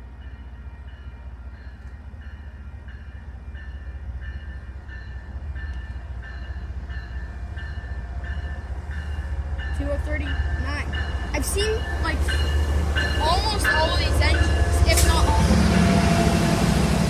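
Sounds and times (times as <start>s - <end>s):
train engine rumble: 0.0s - 17.0s
locomotive bell ringing: 0.1s - 17.0s.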